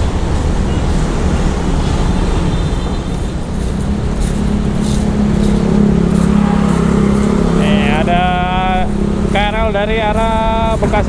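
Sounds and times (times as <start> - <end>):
motorcycle wind and road noise: 0.0 - 11.0.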